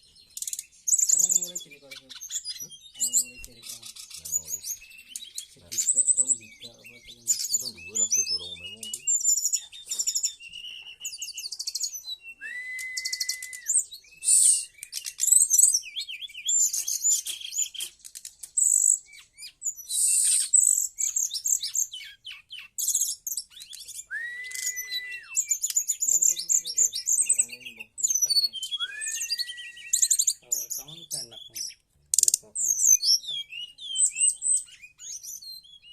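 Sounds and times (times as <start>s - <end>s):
bird singing chirps and trills: 0.0s - 35.9s.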